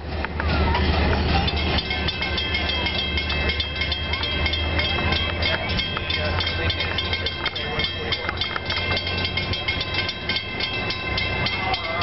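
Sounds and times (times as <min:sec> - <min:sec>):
train rumble: 0:00.0 - 0:12.0
train wheels clicking over rail joints: 0:00.0 - 0:12.0
high-pitched ringing tones: 0:00.6 - 0:12.0.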